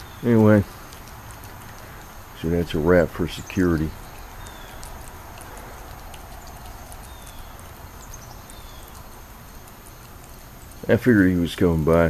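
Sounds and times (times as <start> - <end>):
cat chewing wet food: 0.0 - 10.9
outdoor background hiss: 0.0 - 12.0.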